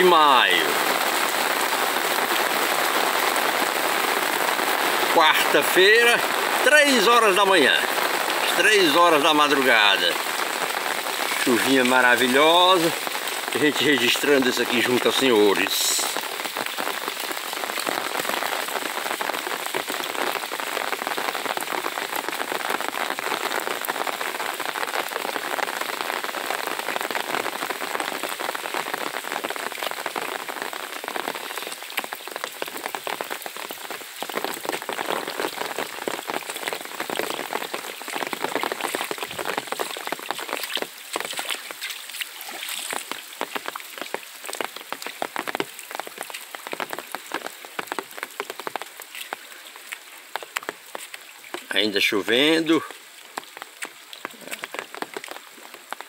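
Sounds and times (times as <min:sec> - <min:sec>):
rain on wet paving: 0:00.0 - 0:56.0.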